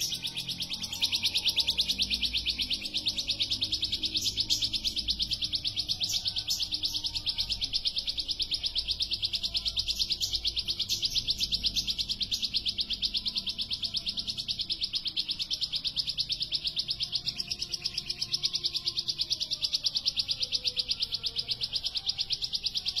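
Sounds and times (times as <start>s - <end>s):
bird singing rapid trill: 0.0s - 23.0s.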